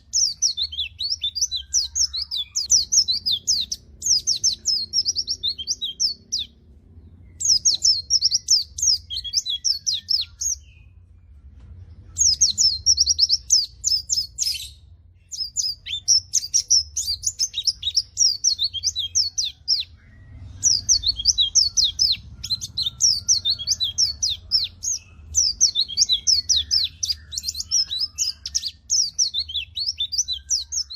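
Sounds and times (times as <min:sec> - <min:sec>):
bird twittering: 0:00.0 - 0:11.0, 0:12.1 - 0:30.9
faint low hum: 0:00.0 - 0:30.9.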